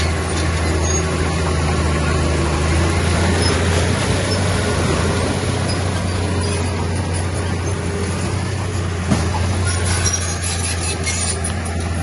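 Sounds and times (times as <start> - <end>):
heavy diesel machinery droning: 0.0 - 12.0.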